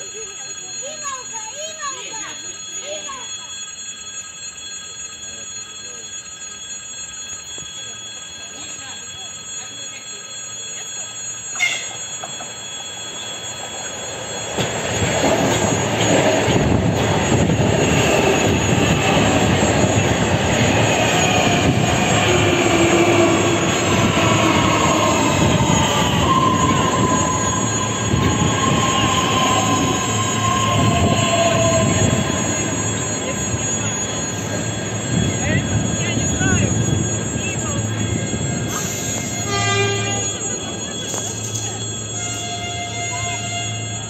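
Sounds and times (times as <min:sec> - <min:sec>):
high wheel squeals: 0:00.0 - 0:44.0
train wheels rolling on rails: 0:06.5 - 0:44.0.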